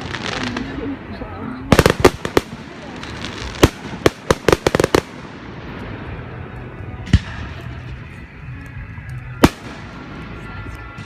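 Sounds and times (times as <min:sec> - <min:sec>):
fireworks exploding: 0:00.0 - 0:08.2, 0:09.3 - 0:11.0.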